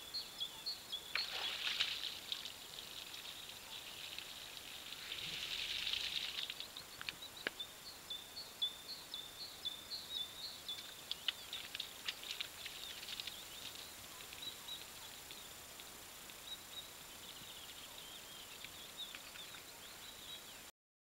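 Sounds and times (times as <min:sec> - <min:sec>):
small birds chirping: 0:00.0 - 0:20.7.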